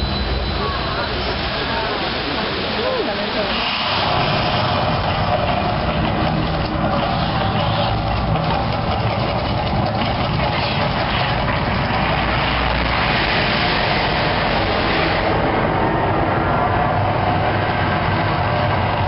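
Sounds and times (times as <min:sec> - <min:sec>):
rumbling roar of fire jets: 0:00.0 - 0:19.0.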